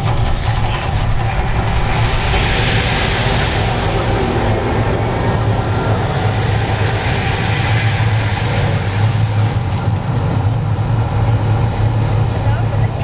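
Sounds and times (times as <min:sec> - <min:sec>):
rushing hiss: 0:00.0 - 0:10.5
loud low rumble: 0:00.0 - 0:13.0.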